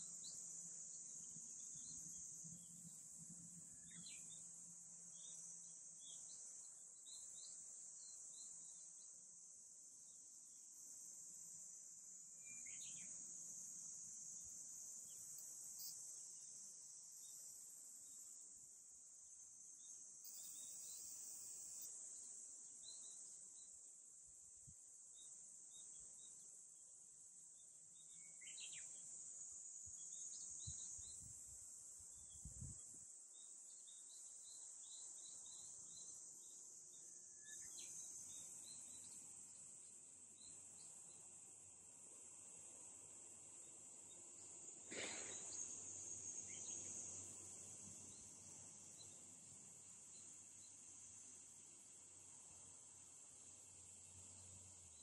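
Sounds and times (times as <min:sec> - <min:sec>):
cicadas droning: 0:00.0 - 0:55.0.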